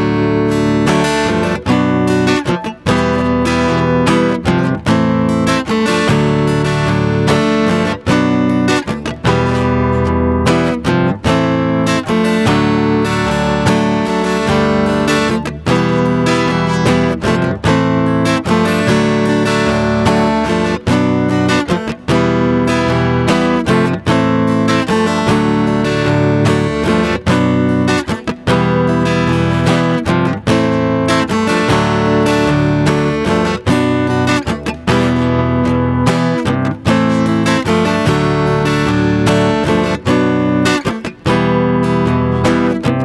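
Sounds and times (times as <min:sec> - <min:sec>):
acoustic guitar strumming chords: 0:00.0 - 0:43.0.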